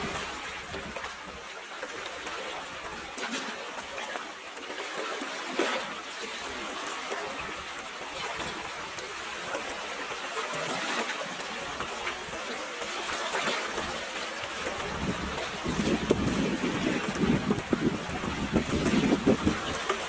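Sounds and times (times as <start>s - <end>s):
water flowing in a stream: 0.0s - 20.0s
water splashing and trickling: 0.0s - 20.0s.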